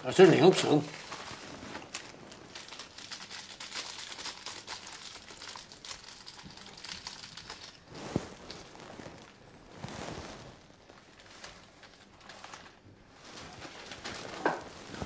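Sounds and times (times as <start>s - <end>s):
paper wrapper crinkling: 0.2s - 15.0s.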